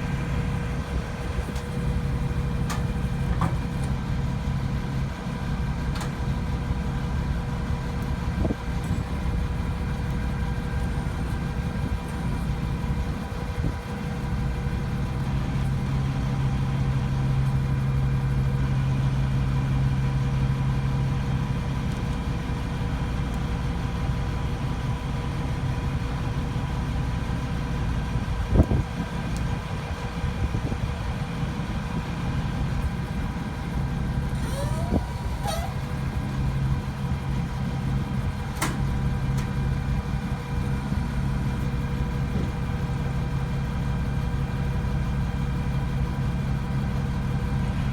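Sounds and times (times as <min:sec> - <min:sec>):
engine droning: 0:00.0 - 0:26.0, 0:26.8 - 0:47.9.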